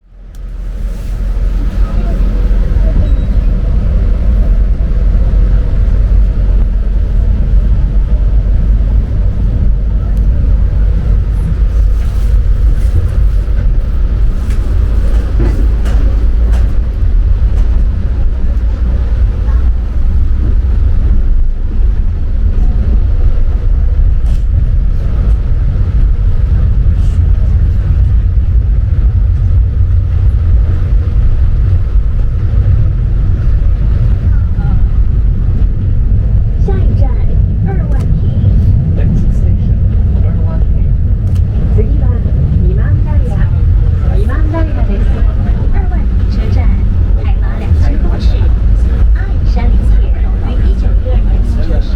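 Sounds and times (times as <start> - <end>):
diesel locomotive rumbling: 0.0 - 51.9.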